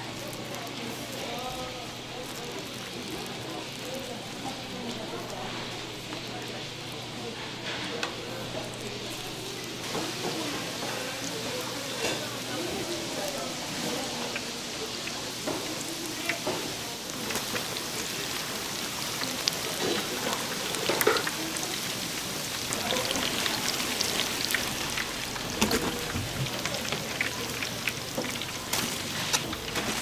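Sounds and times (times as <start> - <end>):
hot oil crackling: 0.0 - 30.0.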